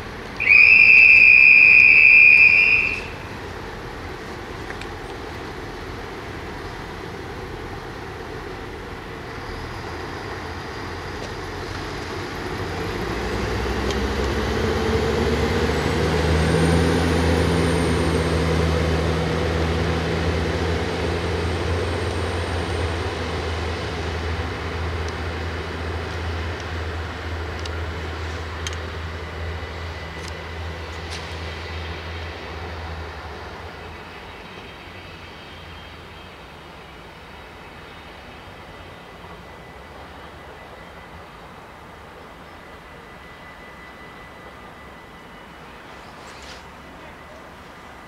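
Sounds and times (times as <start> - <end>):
diesel train engine accelerating: 0.0 - 48.0.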